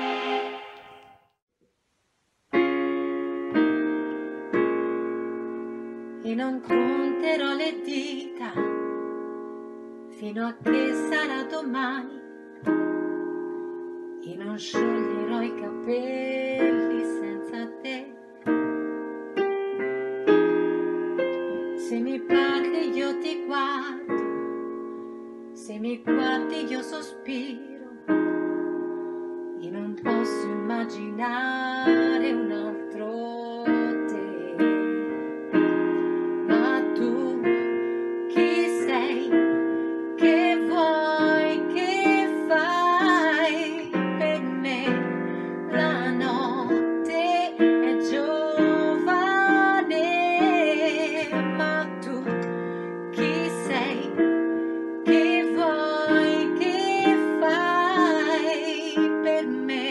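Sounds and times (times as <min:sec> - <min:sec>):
piano chords: 0:00.0 - 0:01.3, 0:02.5 - 0:59.9.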